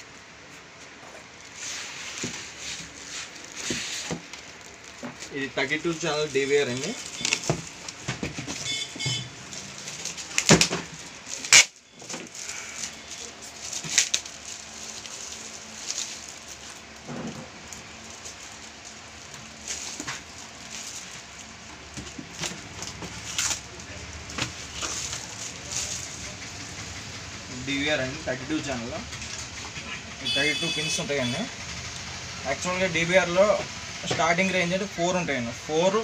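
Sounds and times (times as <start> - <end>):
plastic wrapping crinkling: 0.1 - 35.2.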